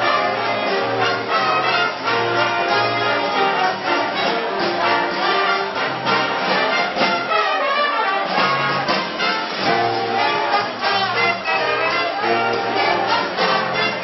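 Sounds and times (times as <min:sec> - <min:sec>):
drums keeping a steady beat: 0:00.0 - 0:14.0
swing big band playing: 0:00.0 - 0:14.0
trumpets and trombones: 0:00.0 - 0:14.0.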